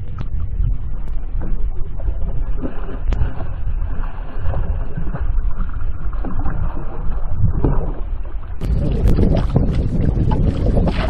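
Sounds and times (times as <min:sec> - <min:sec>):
water lapping against hull: 0:00.0 - 0:11.0
wind on microphone: 0:00.0 - 0:11.0.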